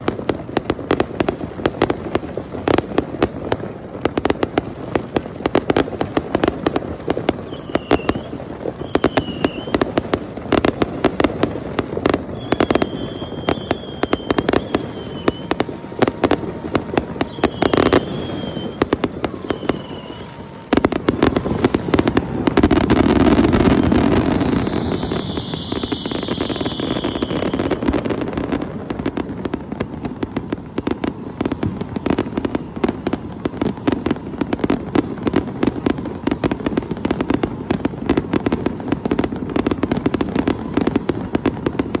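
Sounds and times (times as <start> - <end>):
firecrackers banging: 0.0 - 42.0
high firework whistles: 5.5 - 42.0.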